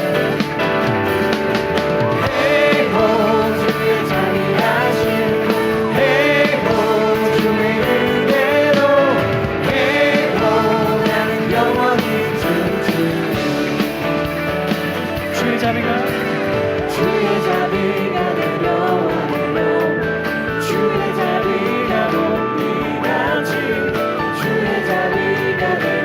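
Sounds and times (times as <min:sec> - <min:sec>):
worship band music with singing: 0:00.0 - 0:26.0.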